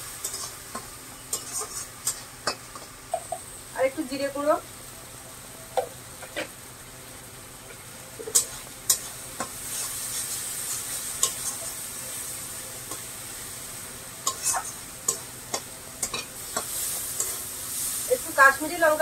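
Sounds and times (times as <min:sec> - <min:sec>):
spice paste sizzling in oil: 0:00.0 - 0:19.0.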